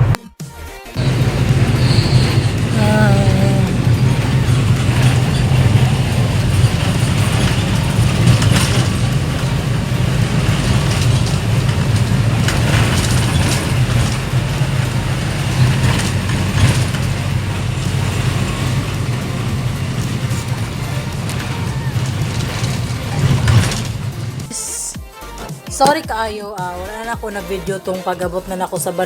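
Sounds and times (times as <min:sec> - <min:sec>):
vehicle engine drone: 0:01.0 - 0:25.4
road noise: 0:01.0 - 0:28.1.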